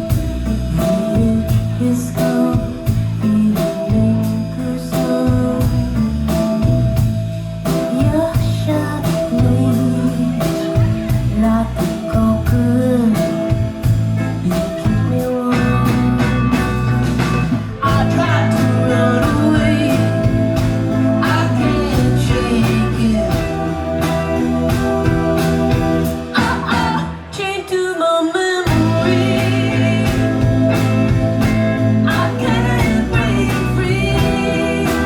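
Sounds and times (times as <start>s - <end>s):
steady drum beat: 0.0s - 27.4s, 28.7s - 35.0s
bass: 0.0s - 35.0s
guitar: 0.0s - 35.0s
person singing: 0.0s - 35.0s.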